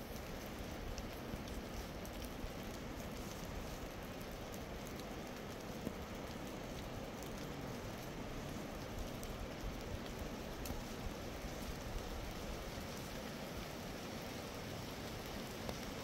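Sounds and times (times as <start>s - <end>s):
raindrops ticking: 0.0s - 16.0s
steady rain falling: 0.0s - 16.0s.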